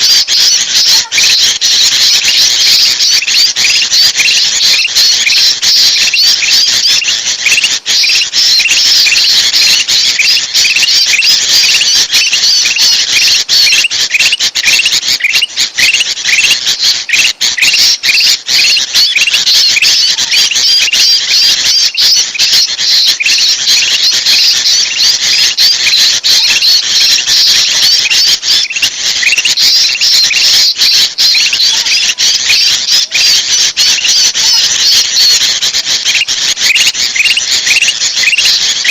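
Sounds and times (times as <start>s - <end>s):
bulbuls chattering: 0.0s - 38.9s.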